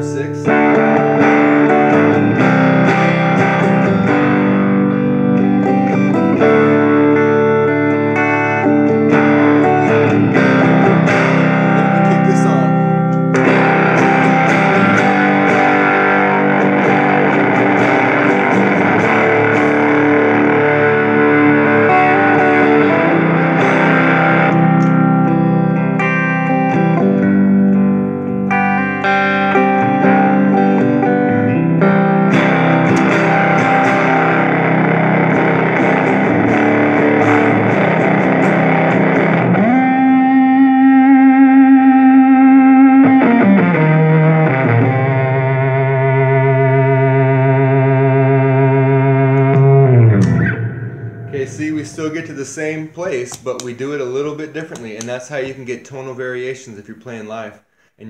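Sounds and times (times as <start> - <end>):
fuzzy distorted electric guitar: 0.0 - 57.9.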